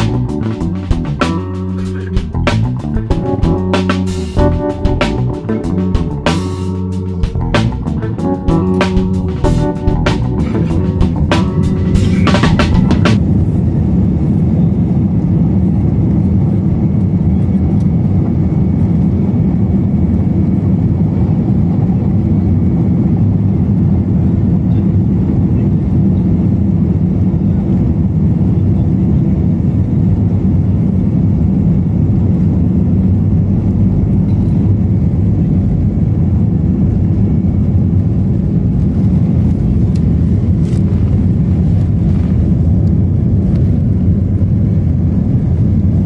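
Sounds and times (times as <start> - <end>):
low rumble of jet engines: 0.0 - 46.0.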